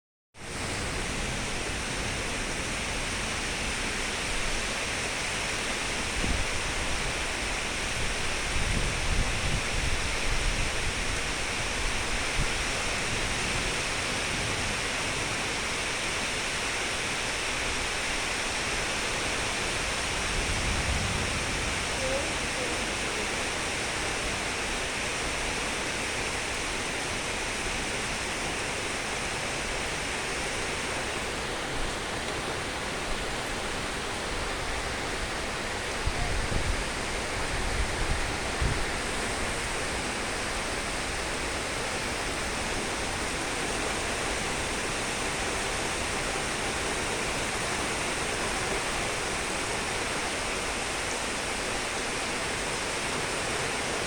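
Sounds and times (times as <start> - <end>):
water flowing: 0.5 - 54.0.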